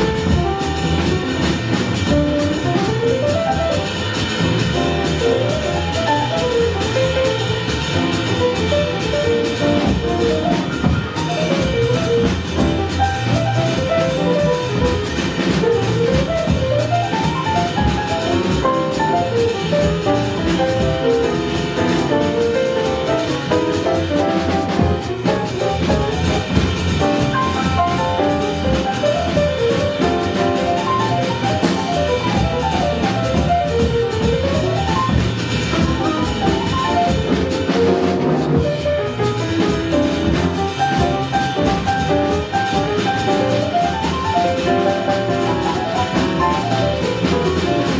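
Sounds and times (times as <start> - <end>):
jazz combo playing: 0.0 - 47.9.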